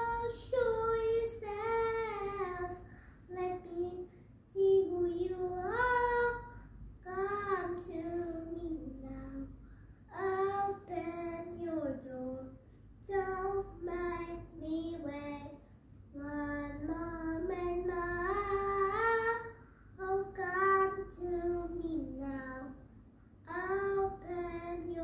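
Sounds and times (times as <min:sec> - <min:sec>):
girl singing unaccompanied: 0:00.0 - 0:22.8, 0:23.4 - 0:25.0.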